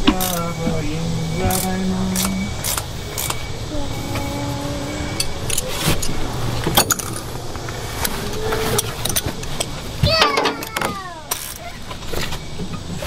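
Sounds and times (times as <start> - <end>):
low steady rumble: 0.0 - 13.0
metal tools clinking: 0.1 - 0.8, 1.4 - 12.8.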